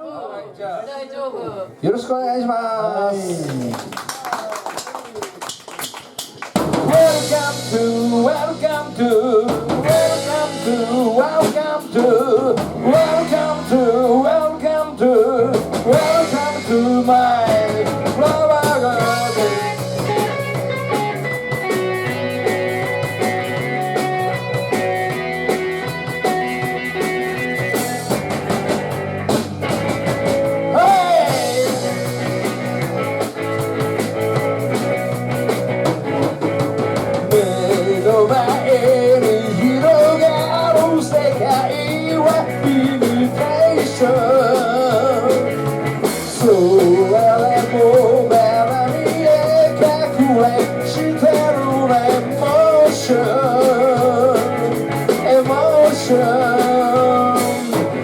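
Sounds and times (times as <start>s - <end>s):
rock band playing live: 5.8s - 58.0s.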